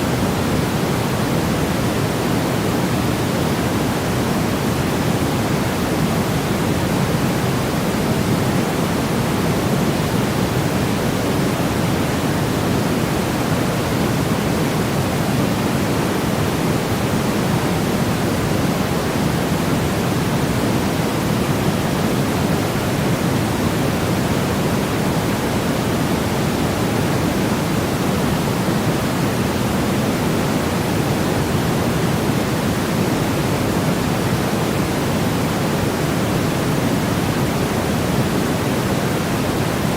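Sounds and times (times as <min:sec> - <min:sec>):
steady pink noise rush: 0:00.0 - 0:39.9.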